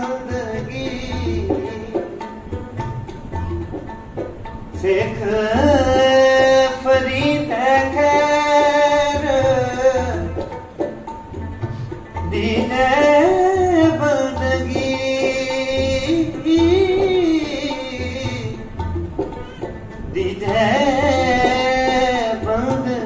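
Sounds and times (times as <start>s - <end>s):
plucked rabab: 0.0s - 23.0s
sarangi melody: 0.0s - 23.0s
tabla rhythm: 0.0s - 23.0s.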